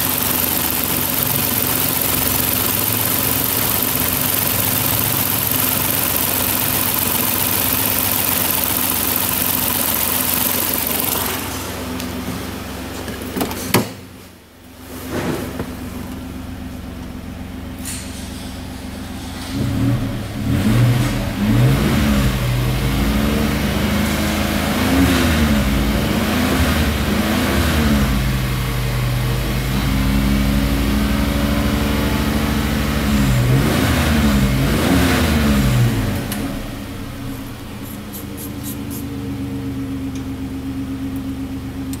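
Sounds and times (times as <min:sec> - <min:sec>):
car engine revving and idling: 0:00.0 - 0:13.0, 0:18.4 - 0:42.0.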